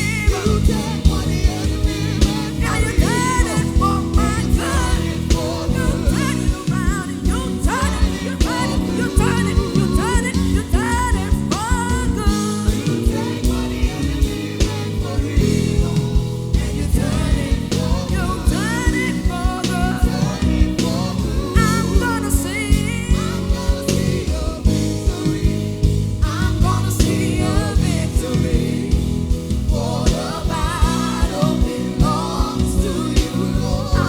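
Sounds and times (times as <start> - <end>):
live gospel band playing: 0.0 - 34.0
steady drum beat: 0.0 - 34.0.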